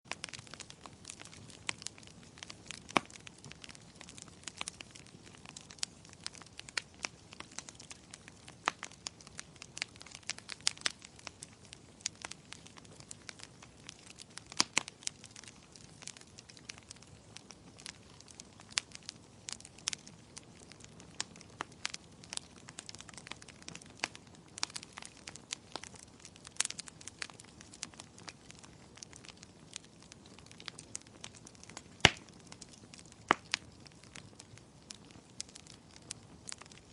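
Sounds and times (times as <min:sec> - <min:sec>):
wood fire crackling: 0:00.1 - 0:36.9.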